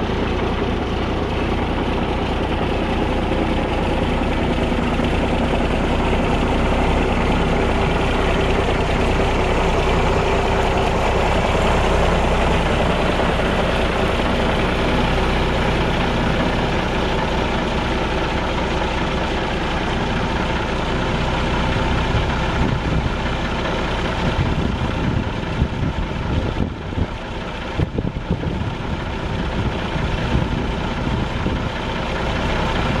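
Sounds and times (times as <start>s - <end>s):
diesel truck engine idling: 0.0s - 33.0s.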